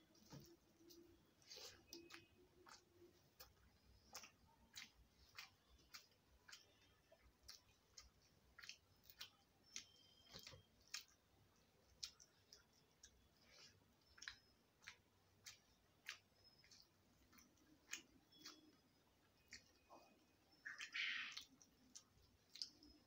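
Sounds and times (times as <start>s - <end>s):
fingers mixing rice on plate: 0.0s - 23.0s
wet chewing and smacking: 0.0s - 23.0s.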